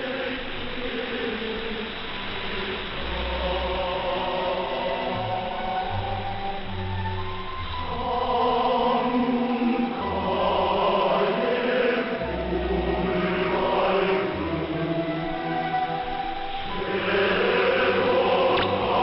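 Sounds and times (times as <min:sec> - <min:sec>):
choral music on shortwave radio: 0:00.0 - 0:19.0.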